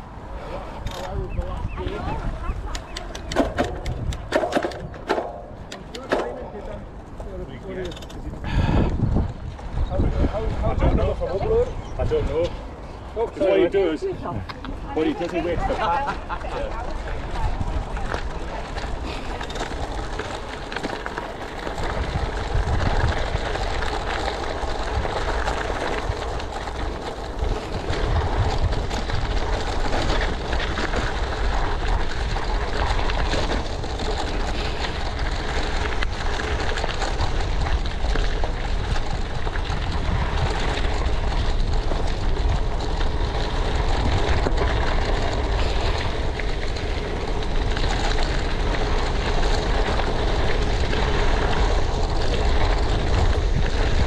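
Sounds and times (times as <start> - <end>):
bike rattling: 0.0 - 54.0
tyres crunching gravel: 0.0 - 54.0
wind rumble on microphone: 0.0 - 54.0.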